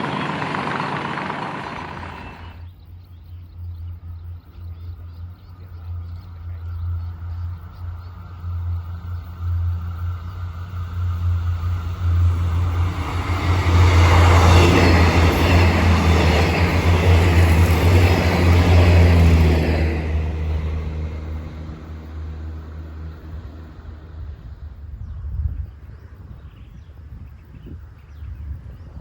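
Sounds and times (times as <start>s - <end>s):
diesel engine drone: 0.0s - 25.6s
train running on rails: 0.0s - 29.0s.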